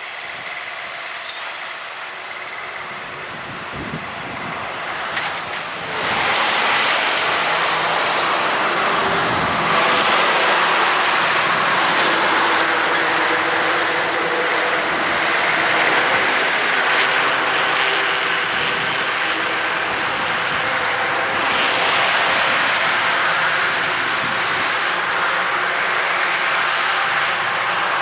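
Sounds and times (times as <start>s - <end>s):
passenger train running past: 0.0s - 28.0s.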